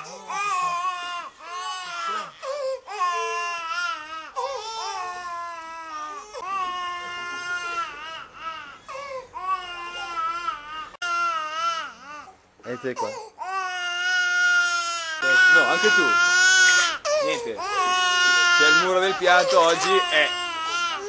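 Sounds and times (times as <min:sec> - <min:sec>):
young children crying: 0:00.0 - 0:21.0.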